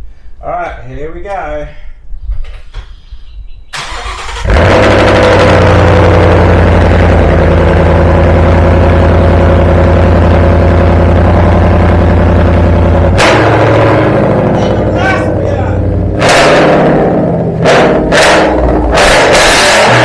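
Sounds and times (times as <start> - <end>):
car engine cranking and idling: 3.7 - 20.0.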